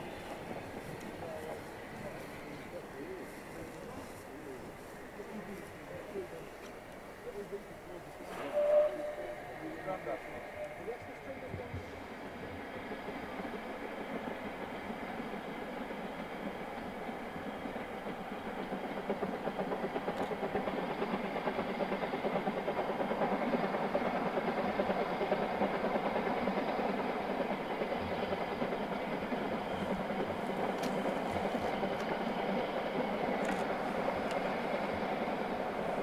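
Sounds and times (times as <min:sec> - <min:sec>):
steam locomotive chuffing: 0:00.0 - 0:36.0.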